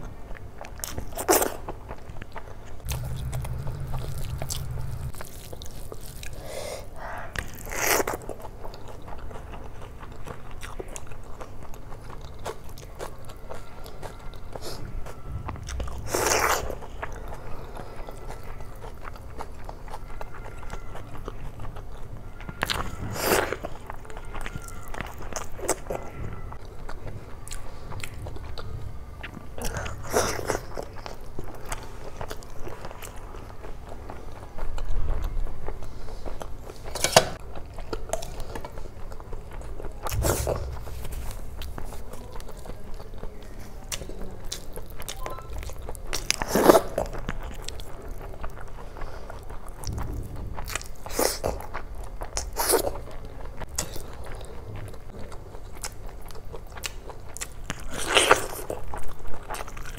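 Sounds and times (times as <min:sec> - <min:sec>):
chewing and biting: 0:00.3 - 0:06.6, 0:07.3 - 0:59.9.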